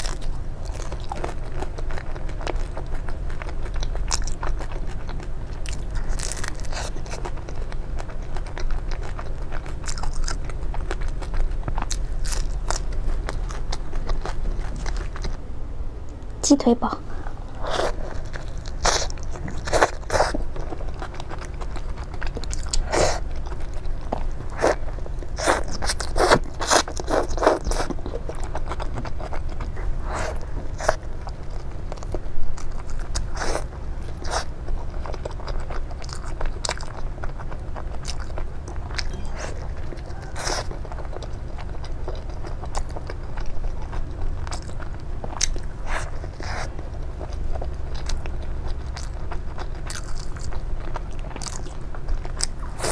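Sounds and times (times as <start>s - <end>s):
chewing with sharp crunches: 0.0s - 15.5s, 17.1s - 52.9s.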